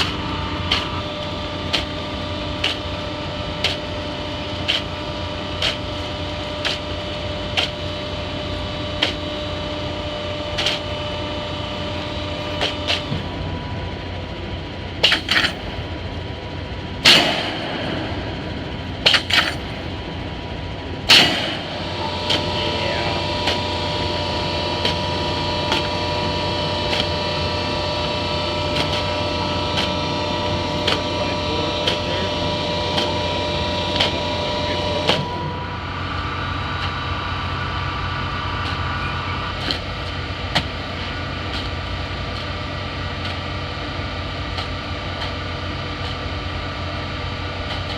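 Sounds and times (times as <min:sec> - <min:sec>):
machinery humming: 0:00.0 - 0:47.9.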